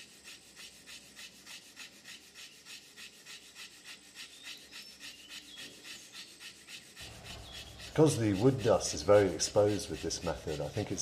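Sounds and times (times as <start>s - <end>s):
wooden stick rasping on wood: 0.0s - 11.0s.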